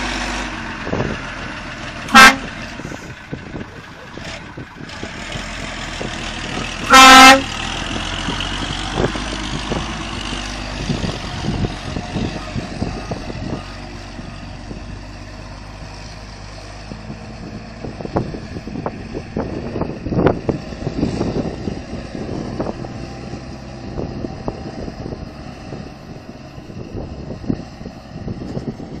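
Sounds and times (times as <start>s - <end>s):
dump truck diesel engine: 0.0s - 29.0s.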